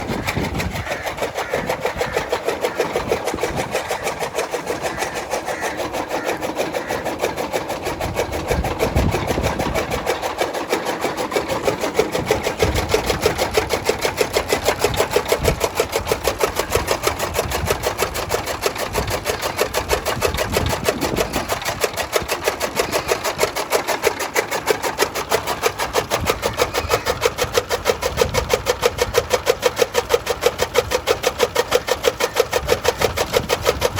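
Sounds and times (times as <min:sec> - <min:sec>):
chaff cutter chopping grass: 0:00.0 - 0:33.9
steady mechanical hum: 0:00.0 - 0:33.9.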